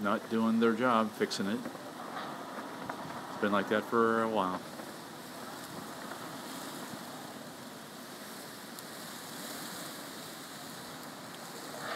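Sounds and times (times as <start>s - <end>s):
strong wind blowing: 1.7s - 11.9s.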